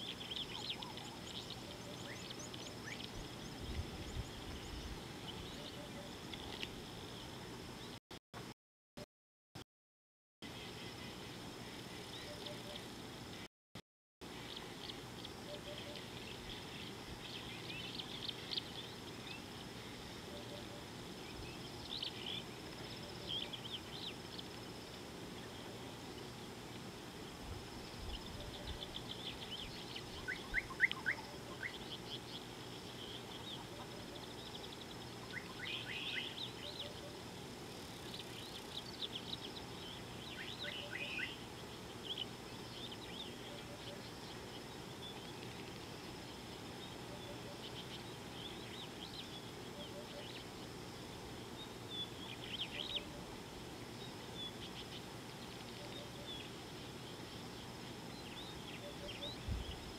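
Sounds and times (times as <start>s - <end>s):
birds chirping: 0.0s - 8.0s, 10.4s - 13.5s, 14.2s - 59.9s
faint high hum: 10.4s - 13.5s, 14.2s - 59.9s.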